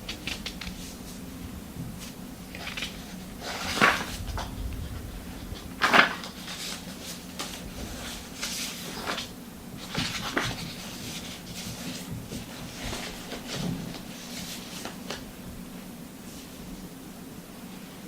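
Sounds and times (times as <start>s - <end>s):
rustles and bumps of handling: 0.0s - 17.0s
faint low hum: 0.0s - 18.0s.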